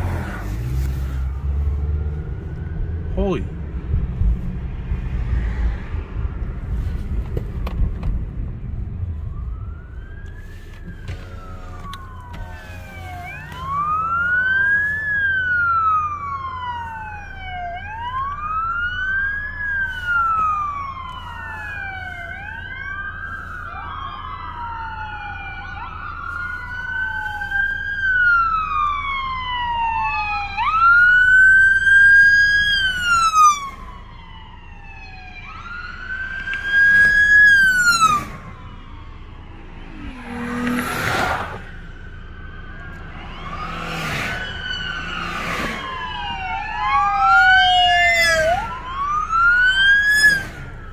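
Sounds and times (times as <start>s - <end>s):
car road rumble: 0.0s - 50.9s
police sirens wailing: 0.0s - 50.9s.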